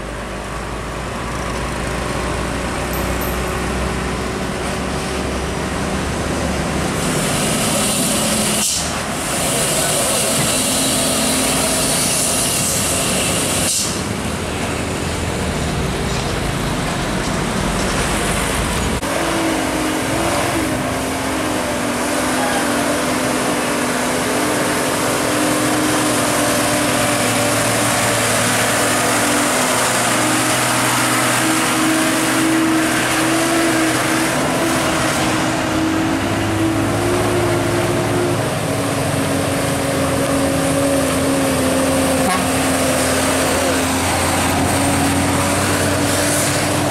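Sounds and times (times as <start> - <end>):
diesel truck engines labouring: 0.0 - 46.9.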